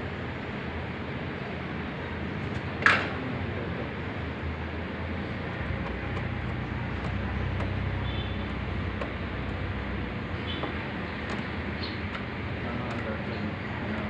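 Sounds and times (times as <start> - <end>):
air conditioner unit humming: 0.0 - 14.0.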